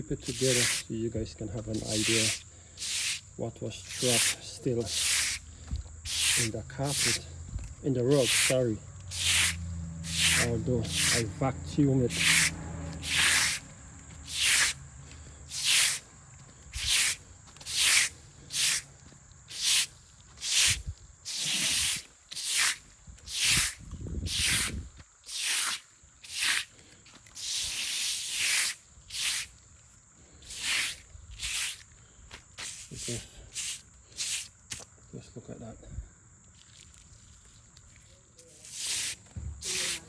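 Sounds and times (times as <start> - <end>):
broom sweeping sand on plastic: 0.2 - 1.0, 1.6 - 7.3, 8.0 - 14.8, 15.5 - 16.1, 16.7 - 18.9, 19.5 - 29.6, 30.3 - 31.9, 32.5 - 34.9, 36.6 - 40.0.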